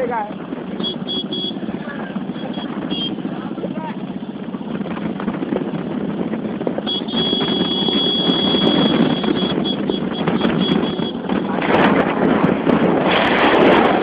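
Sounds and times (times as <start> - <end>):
motorcycles running: 0.0 - 14.0
wind buffeting microphone: 0.0 - 14.0.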